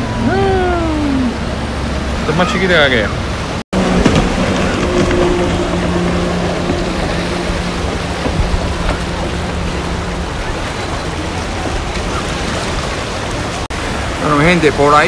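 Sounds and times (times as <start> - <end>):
jet ski engine humming: 0.0 - 15.0
waves washing on rocks: 1.3 - 15.0.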